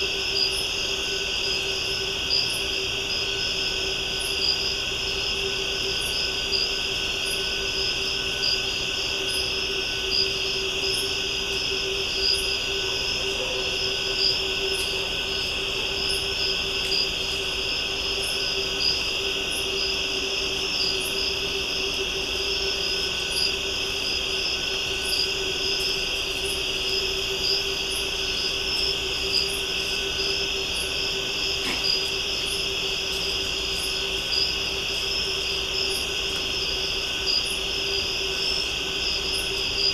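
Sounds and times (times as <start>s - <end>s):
high insect chirp: 0.0s - 39.9s
insects trilling: 0.0s - 39.9s.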